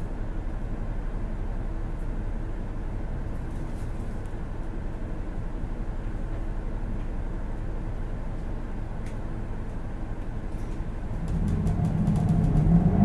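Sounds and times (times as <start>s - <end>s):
bus diesel engine: 0.0s - 13.0s.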